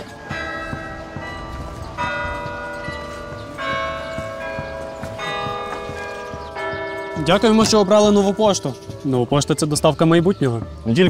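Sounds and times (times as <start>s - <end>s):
bells tolling slowly: 0.0s - 10.0s.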